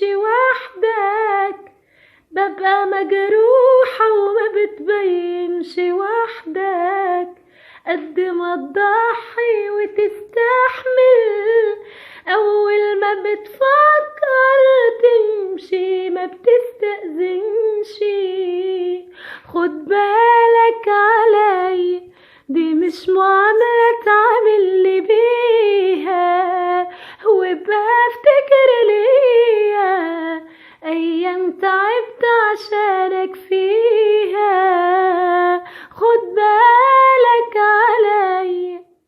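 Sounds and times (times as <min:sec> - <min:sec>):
woman singing pop melody: 0:00.0 - 0:39.0.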